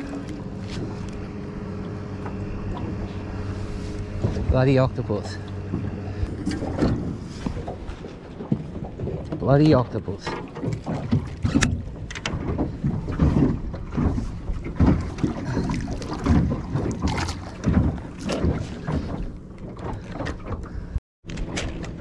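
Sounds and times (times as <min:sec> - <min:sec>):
water slapping against a boat: 0:00.0 - 0:22.0.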